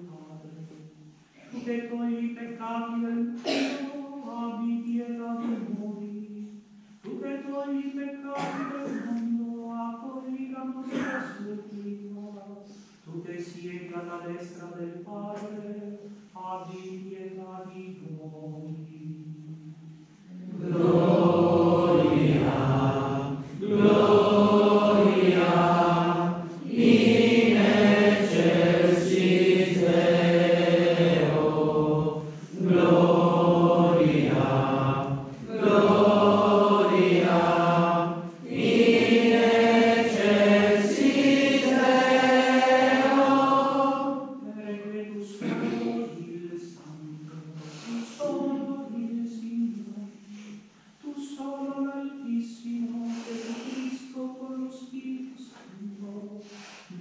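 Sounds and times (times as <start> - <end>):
voices singing liturgical chant: 0.0 - 12.4, 13.1 - 57.0.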